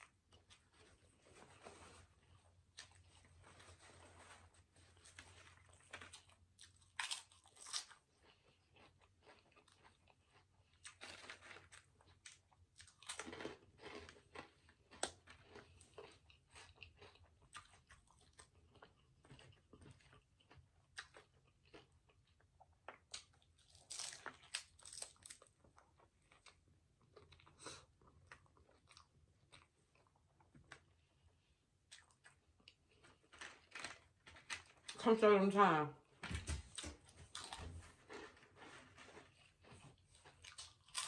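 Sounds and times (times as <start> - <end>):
person chewing food: 0.0 - 35.0, 36.7 - 41.0.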